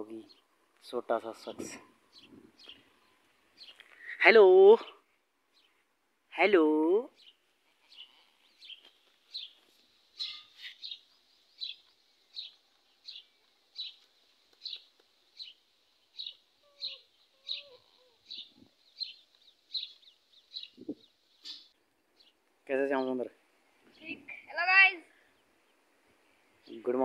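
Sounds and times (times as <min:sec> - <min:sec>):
bird chirping: 0:01.4 - 0:05.9, 0:07.1 - 0:27.0.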